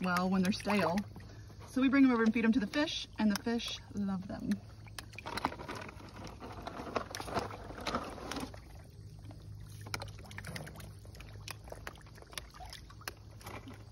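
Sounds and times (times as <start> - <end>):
small water splashes: 0.0 - 13.9.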